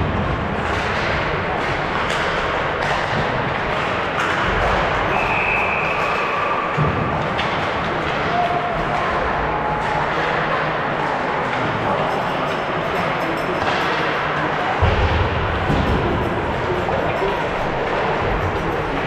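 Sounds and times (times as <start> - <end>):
puck and sticks clacking: 0.0 - 19.0.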